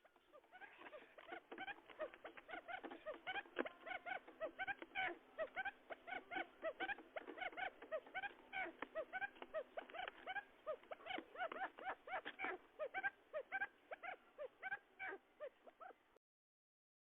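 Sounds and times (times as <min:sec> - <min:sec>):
quail call chirping: 0:00.0 - 0:16.0.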